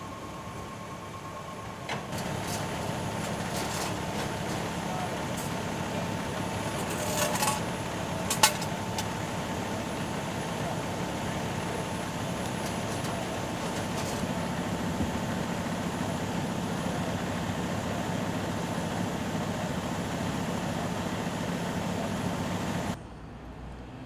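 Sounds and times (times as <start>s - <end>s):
diesel engine idling: 0.0s - 23.6s
street background: 0.0s - 24.0s.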